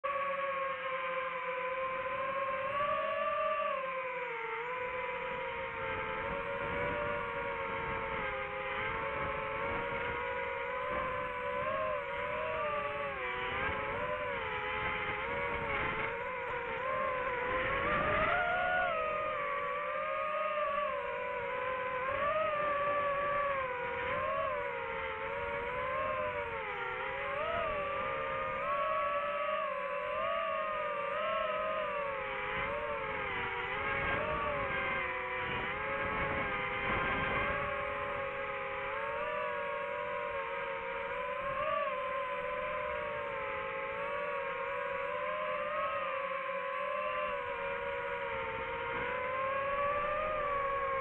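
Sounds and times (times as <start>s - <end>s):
drone propellers whining: 0.0s - 51.0s.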